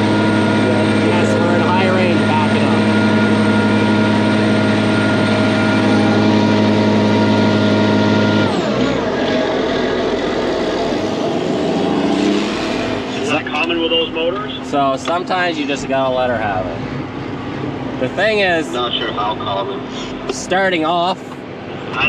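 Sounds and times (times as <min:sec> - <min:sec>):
heavy farm machinery running: 0:00.0 - 0:20.3.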